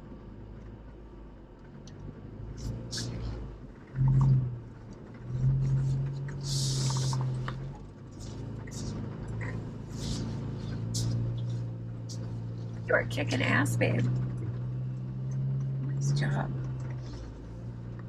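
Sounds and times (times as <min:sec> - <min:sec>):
car engine at low revs: 0:00.0 - 0:18.0
knocks and creaks: 0:01.6 - 0:18.0.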